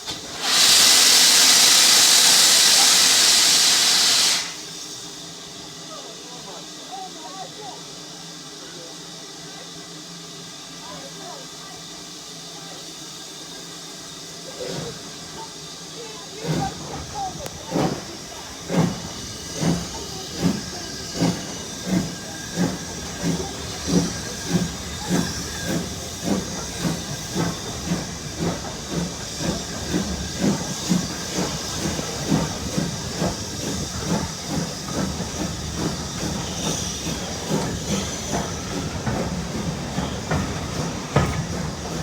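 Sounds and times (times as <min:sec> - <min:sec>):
steam hissing: 0:00.0 - 0:42.0
steam locomotive exhaust beats: 0:00.0 - 0:42.0.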